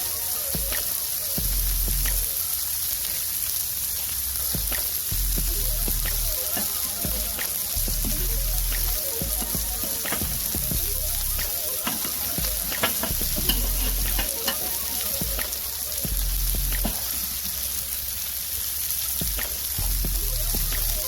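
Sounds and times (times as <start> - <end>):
burgers sizzling on a griddle: 0.0 - 21.0.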